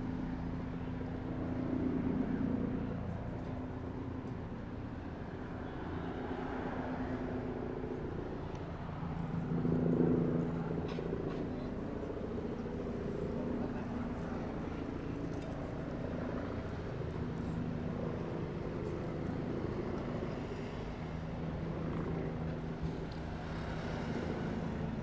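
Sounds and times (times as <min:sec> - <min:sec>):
helicopter rotor and turbine drone: 0:00.0 - 0:25.0.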